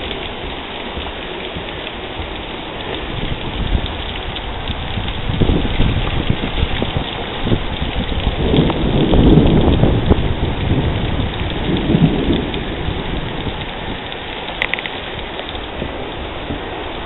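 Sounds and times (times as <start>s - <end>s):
rolling thunder: 0.0s - 14.5s
heavy rain falling: 0.0s - 17.0s.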